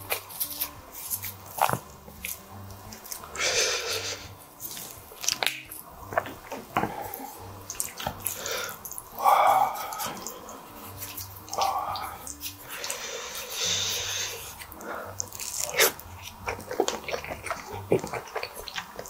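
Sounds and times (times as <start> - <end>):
cheese shaker hiss: 0.0 - 5.9, 6.9 - 19.0
wet sticky squelches of pasta: 0.0 - 19.0.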